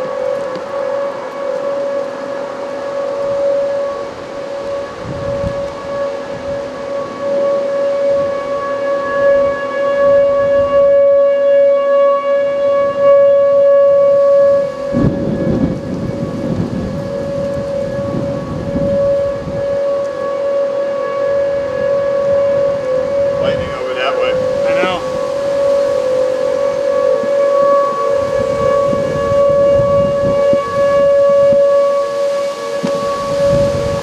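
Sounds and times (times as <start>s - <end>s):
fainter second siren: 0.0s - 34.0s
warning siren steady tone: 0.0s - 34.0s.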